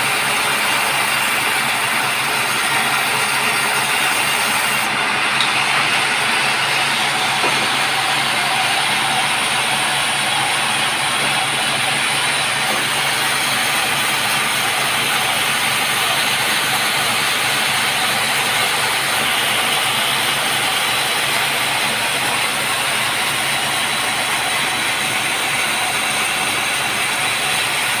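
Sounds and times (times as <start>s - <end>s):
sawmill saw running: 0.0s - 28.0s.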